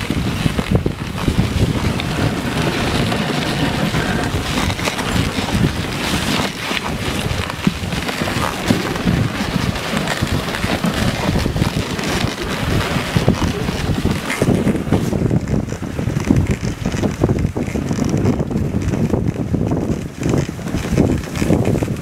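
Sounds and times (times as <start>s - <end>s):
sled runners scraping on snow: 0.0s - 22.0s
wind buffeting microphone: 0.0s - 22.0s.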